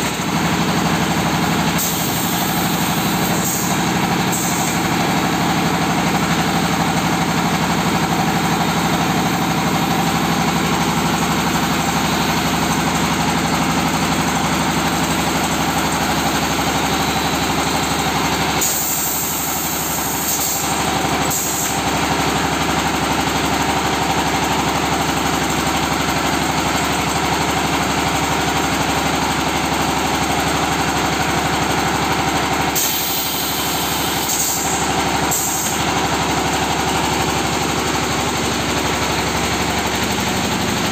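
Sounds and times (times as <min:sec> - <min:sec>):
brick press machine running: 0:00.0 - 0:40.9.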